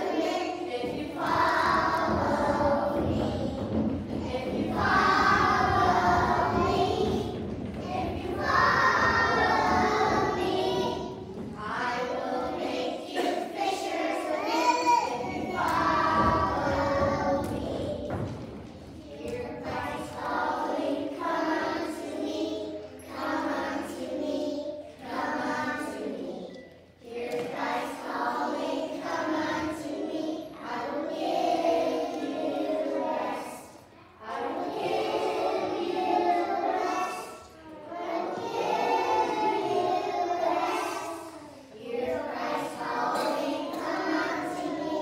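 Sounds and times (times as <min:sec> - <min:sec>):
children singing together: 0:00.0 - 0:45.0.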